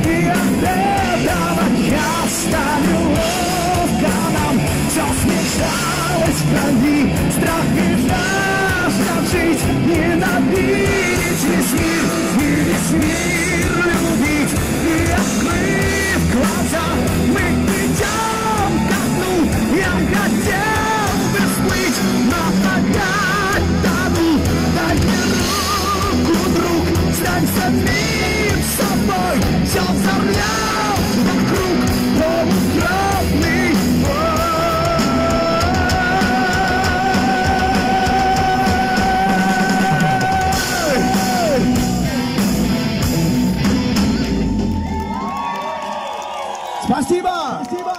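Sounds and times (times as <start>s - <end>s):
guitar lead with bending notes: 0.0s - 44.9s
bass guitar: 0.0s - 46.5s
drum kit: 0.0s - 46.5s
distorted electric guitars: 0.0s - 47.2s.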